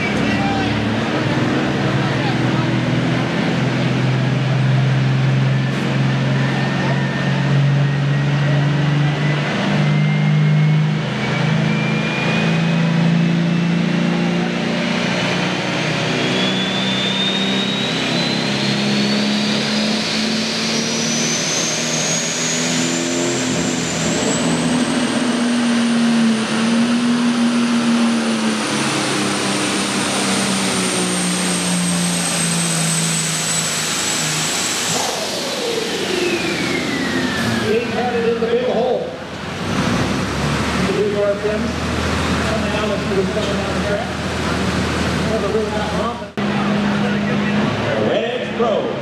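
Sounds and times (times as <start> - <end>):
diesel engine under full load: 0.0 - 49.0
high turbo whine: 0.0 - 49.0.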